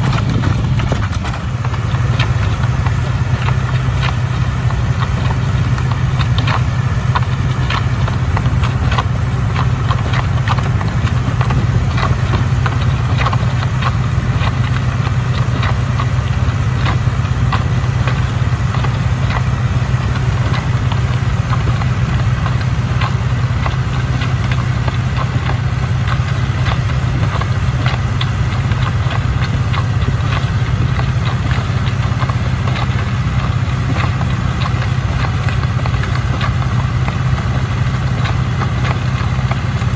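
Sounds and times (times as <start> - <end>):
rapid irregular clattering ticks: 0.0 - 39.9
tractor diesel engine running: 0.0 - 39.9.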